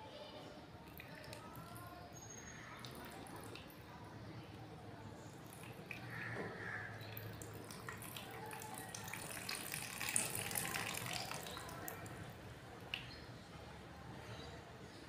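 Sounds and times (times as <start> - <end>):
water trickling into container: 0.8 - 13.5.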